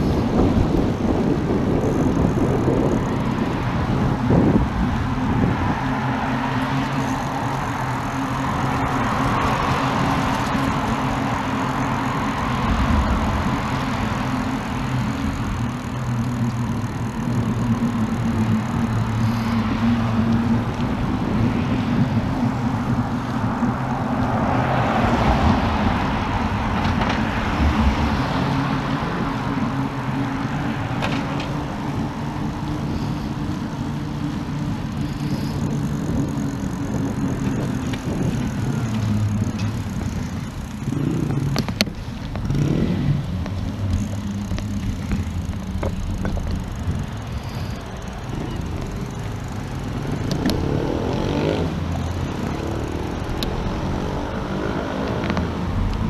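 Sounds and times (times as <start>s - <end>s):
bicycle riding hum: 0.0s - 56.0s
passing road traffic: 0.0s - 56.0s.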